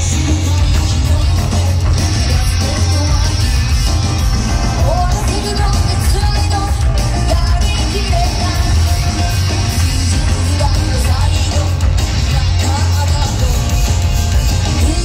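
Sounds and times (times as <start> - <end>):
woman singing into microphone: 0.0 - 3.9, 4.8 - 13.6
live pop music over loudspeakers: 0.0 - 15.0.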